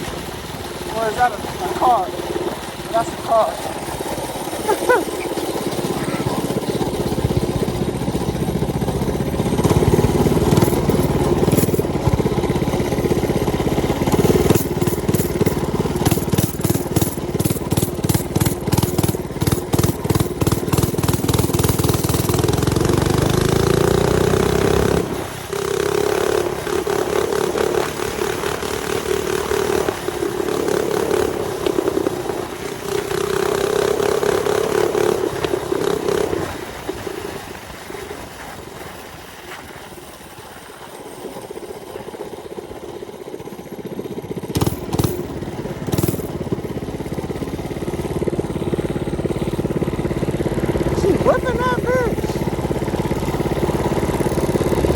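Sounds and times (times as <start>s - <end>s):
small engine pulsing rumble: 0.0s - 54.9s.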